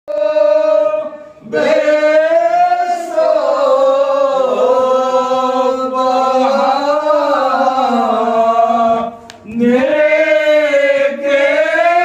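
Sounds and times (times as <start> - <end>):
person singing a chant: 0.1 - 12.0.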